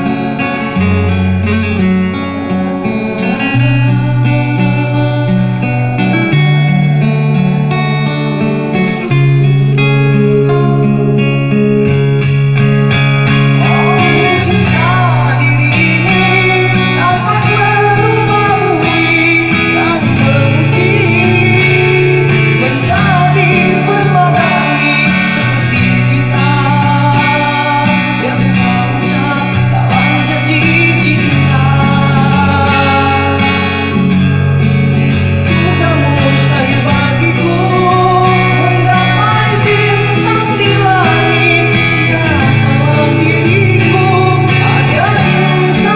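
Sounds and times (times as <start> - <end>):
person singing: 0.0 - 11.9, 12.9 - 34.5, 35.2 - 45.9
bass line: 0.0 - 45.9
guitar accompaniment: 0.0 - 45.9.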